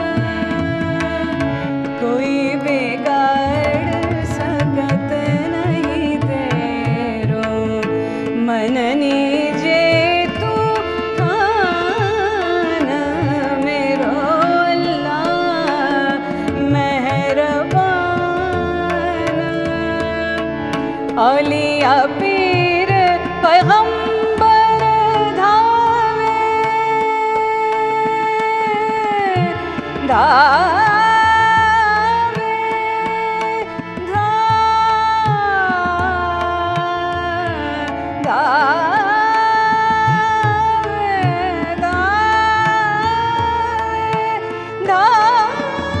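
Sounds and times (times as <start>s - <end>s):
woman singing classical song: 0.0s - 46.0s.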